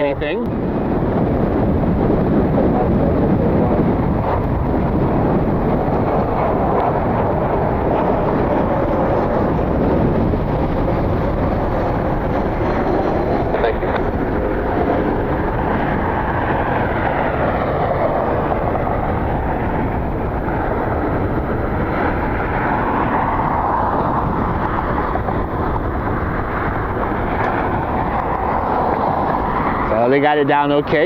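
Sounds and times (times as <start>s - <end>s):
jet engine landing: 0.0s - 31.0s
wind rumble on microphone: 0.0s - 31.0s.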